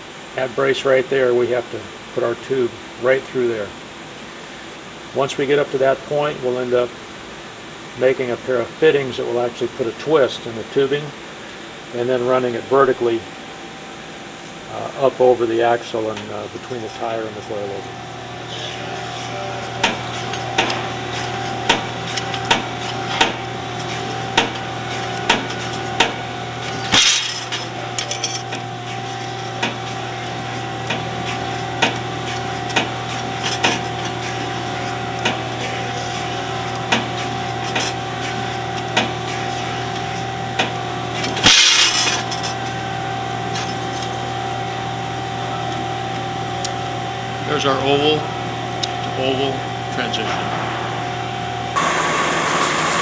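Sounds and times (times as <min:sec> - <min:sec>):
shop machinery hum: 0:00.0 - 0:53.0.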